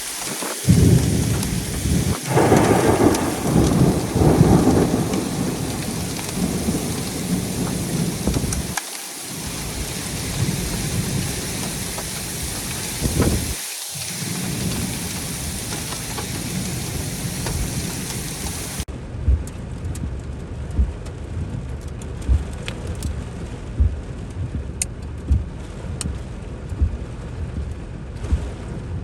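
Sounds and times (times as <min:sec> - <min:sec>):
raindrops ticking: 0:00.0 - 0:28.5
heavy rain pouring: 0:00.0 - 0:29.0.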